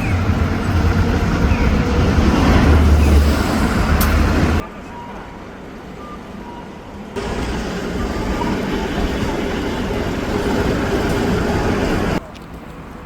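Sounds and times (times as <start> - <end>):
streetcar motors and wheels rumbling: 0.0 - 13.0.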